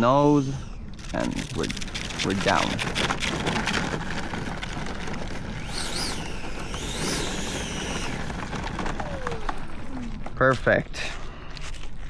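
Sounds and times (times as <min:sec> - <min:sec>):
electric ducted fan whining: 0:00.0 - 0:10.4.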